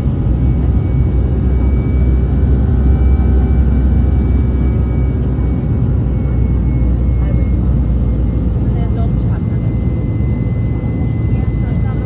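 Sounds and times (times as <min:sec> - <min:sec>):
airliner cabin engine rumble: 0:00.0 - 0:12.0
faint steady tones: 0:00.0 - 0:12.0.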